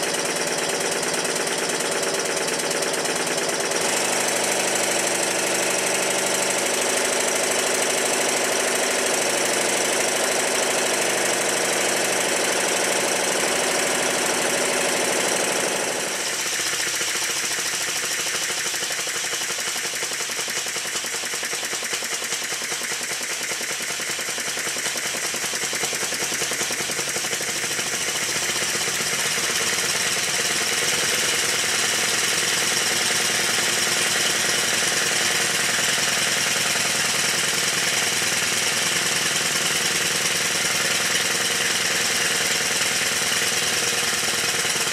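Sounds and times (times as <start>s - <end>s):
model steam engine clattering: 0.1s - 44.9s.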